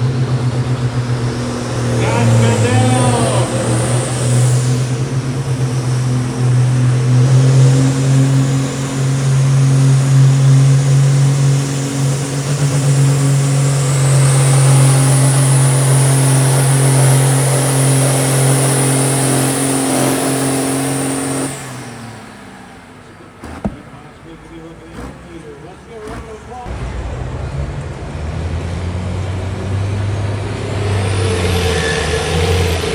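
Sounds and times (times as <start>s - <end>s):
tractor diesel engine working hard: 0.0s - 32.9s.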